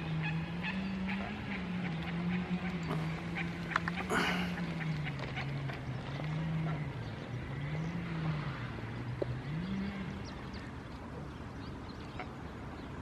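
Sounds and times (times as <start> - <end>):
road noise rush: 0.0 - 13.0
vehicle engine hum: 0.0 - 13.0.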